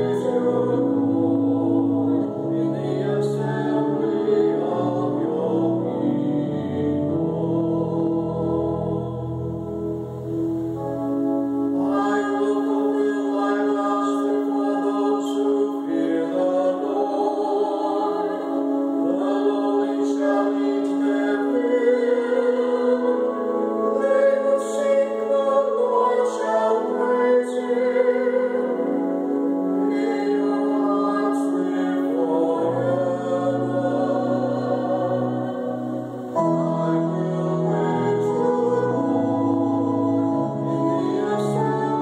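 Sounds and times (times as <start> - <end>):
man and woman singing: 0.0 - 9.5, 11.8 - 29.0, 29.6 - 42.0
pipe organ chords: 0.0 - 42.0.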